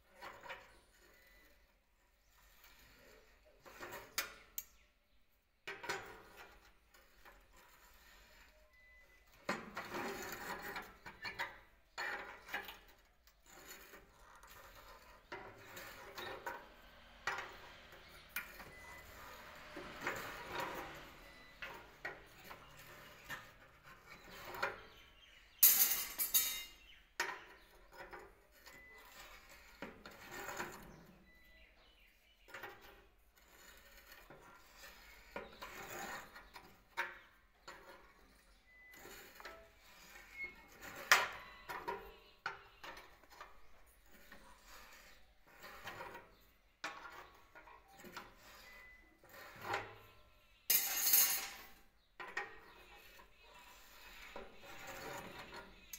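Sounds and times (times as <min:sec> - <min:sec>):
steel rebar scraping and clanking: 0:00.0 - 0:05.0, 0:05.7 - 0:55.9.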